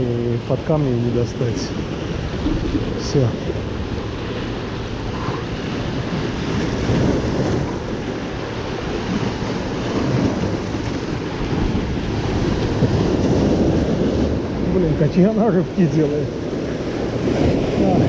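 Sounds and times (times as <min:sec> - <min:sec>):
surf washing over boulders: 0:00.0 - 0:18.0
wind buffeting microphone: 0:00.0 - 0:18.0.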